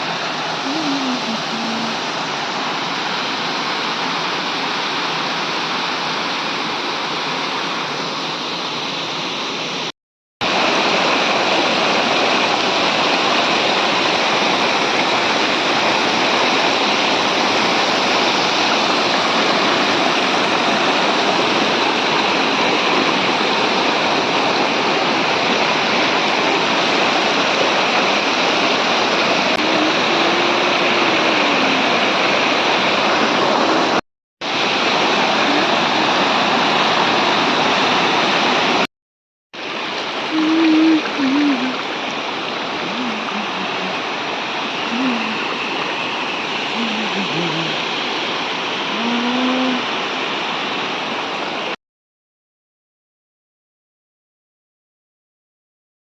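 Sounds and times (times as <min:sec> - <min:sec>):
waterfall roaring: 0:00.0 - 0:38.9, 0:39.6 - 0:51.8.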